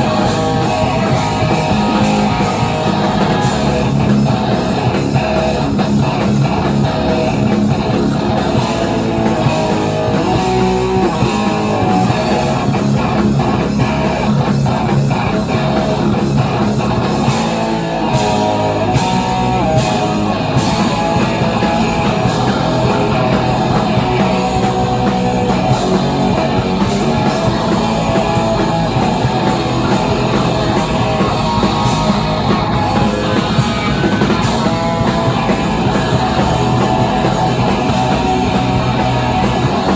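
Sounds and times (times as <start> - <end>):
bass guitar: 0.0 - 39.9
distorted electric guitar riffs: 0.0 - 39.9
drum kit: 0.0 - 39.9.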